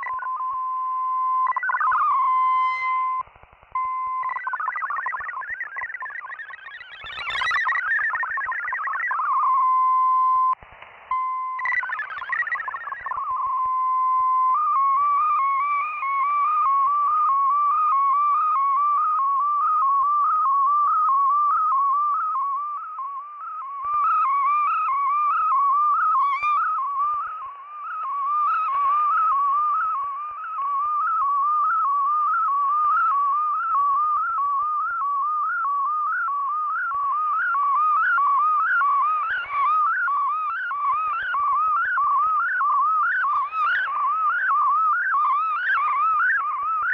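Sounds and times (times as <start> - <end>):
fast warbling data tone: 0.0 - 10.6, 11.4 - 20.3, 23.3 - 34.9, 35.5 - 46.9
steady single radio tone: 0.0 - 46.9.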